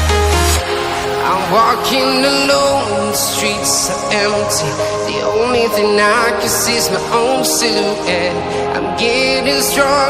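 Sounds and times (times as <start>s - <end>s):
electronic music with singing: 0.0s - 10.0s.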